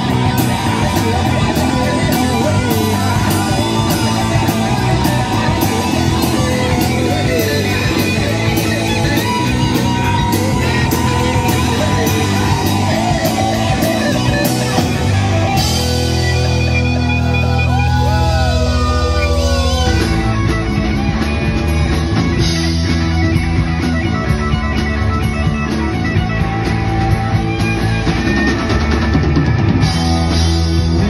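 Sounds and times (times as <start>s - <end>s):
drum kit beat: 0.0s - 31.0s
electric bass: 0.0s - 31.0s
electric guitars: 0.0s - 31.0s.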